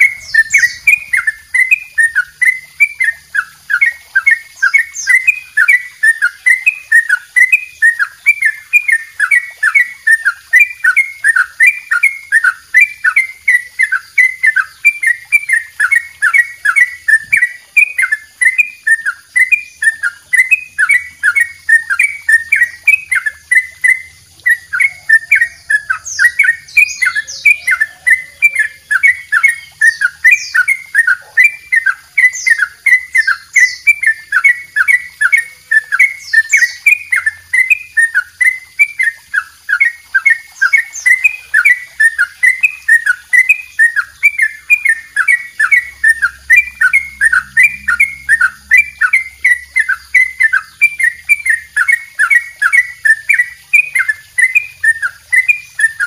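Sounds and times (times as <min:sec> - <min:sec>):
bulbul singing repeated notes: 0:00.0 - 0:56.0.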